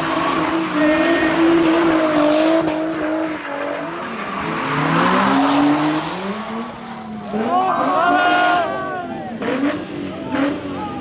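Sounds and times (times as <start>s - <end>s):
car engine revving hard: 0.0s - 11.0s
tires squealing and skidding: 0.0s - 11.0s.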